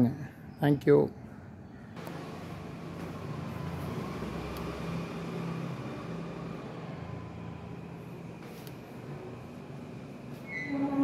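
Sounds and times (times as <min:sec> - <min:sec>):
street traffic noise: 0:00.0 - 0:11.0
passing vehicle rumble: 0:02.0 - 0:11.0.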